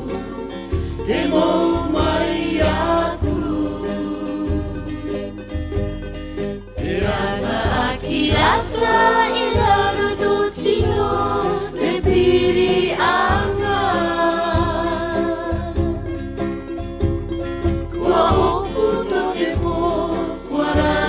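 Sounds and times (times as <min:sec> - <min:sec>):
group of voices singing: 0:00.0 - 0:05.6, 0:06.8 - 0:16.2, 0:17.9 - 0:21.0
steady bass line: 0:00.0 - 0:18.9.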